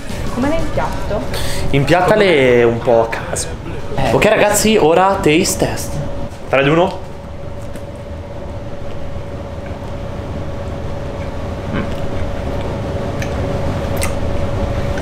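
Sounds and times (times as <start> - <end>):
steady mid-pitched hum: 0.0 - 15.0.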